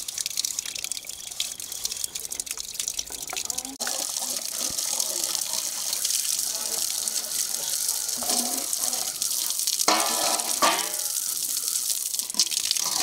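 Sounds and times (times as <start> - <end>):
water running from tap: 0.0 - 13.0
water splashing off steel dishes: 0.0 - 13.0.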